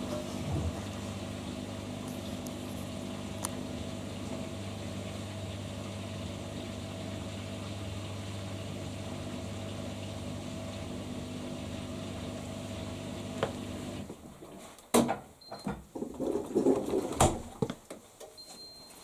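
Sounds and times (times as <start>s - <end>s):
washing machine humming: 0.0s - 17.6s.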